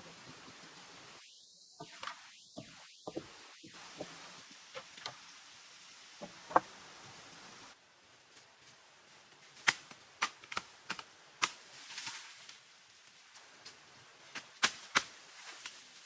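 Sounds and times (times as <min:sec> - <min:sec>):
rustle: 0:00.0 - 0:16.0.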